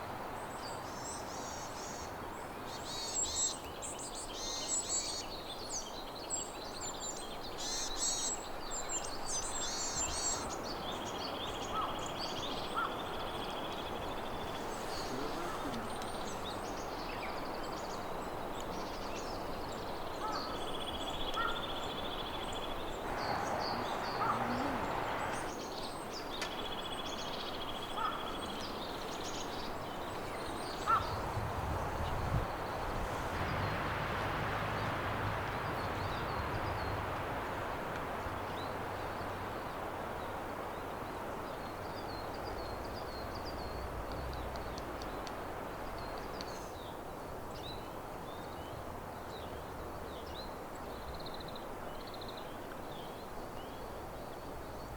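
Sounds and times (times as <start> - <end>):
small songbirds calling: 0.0 - 54.9.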